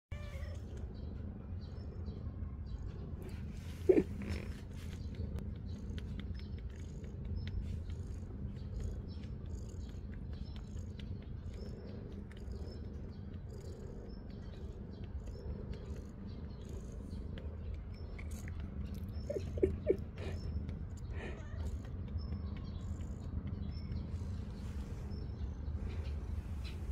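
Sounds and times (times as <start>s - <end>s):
cat purring: 0.1s - 26.9s.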